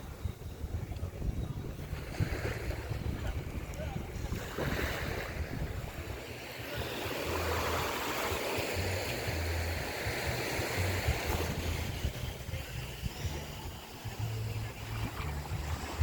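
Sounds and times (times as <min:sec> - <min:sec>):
ocean waves on a beach: 0:00.0 - 0:16.0
wind buffeting microphone: 0:00.0 - 0:16.0.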